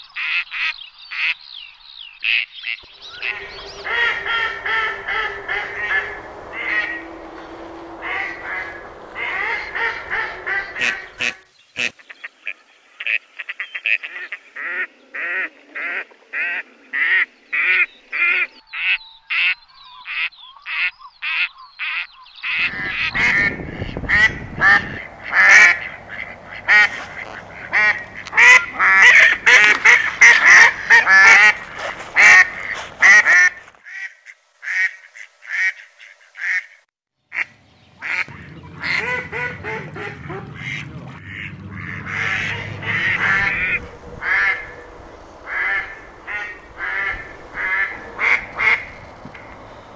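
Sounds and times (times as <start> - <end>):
ducks quacking: 2.2 - 7.2, 8.0 - 12.3, 13.0 - 44.8, 45.4 - 49.7.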